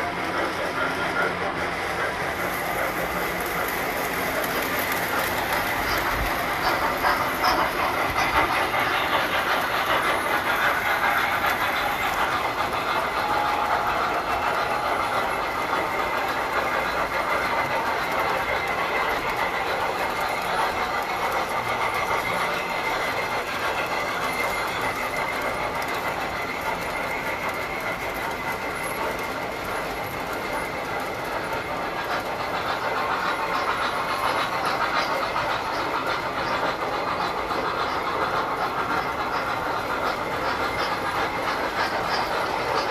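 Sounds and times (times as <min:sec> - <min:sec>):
train wheels clattering on track: 0:00.0 - 0:42.9.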